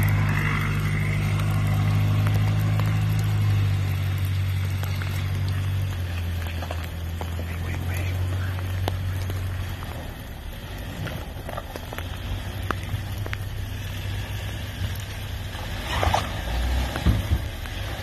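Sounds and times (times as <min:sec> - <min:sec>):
car engine low drone: 0:00.0 - 0:18.0.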